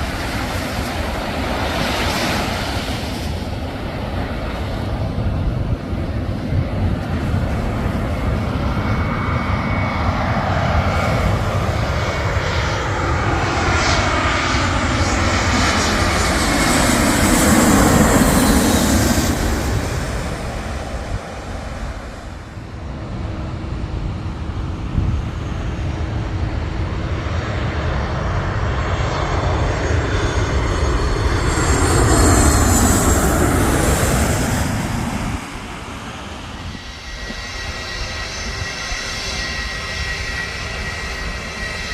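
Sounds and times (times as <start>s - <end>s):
jet airliner passing overhead: 0.0s - 41.9s.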